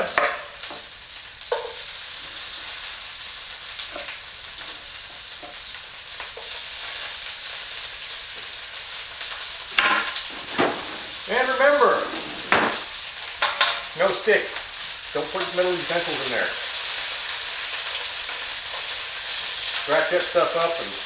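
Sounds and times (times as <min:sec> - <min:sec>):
steak sizzling in a pan: 0:00.0 - 0:21.0.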